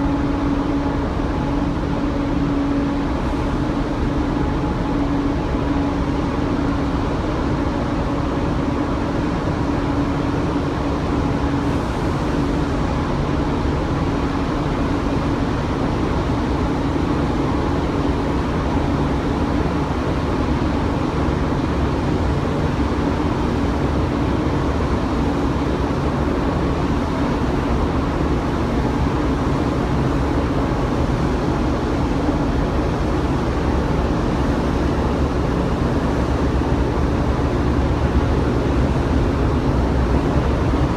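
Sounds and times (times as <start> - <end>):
ship engine drone: 0.0 - 40.9.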